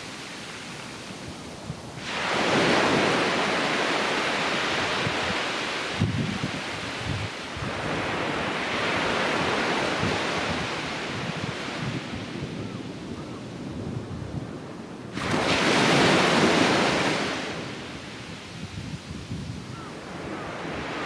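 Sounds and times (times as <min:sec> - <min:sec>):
ocean surf breaking on beach: 0:00.0 - 0:21.0
wind on microphone: 0:00.0 - 0:21.0.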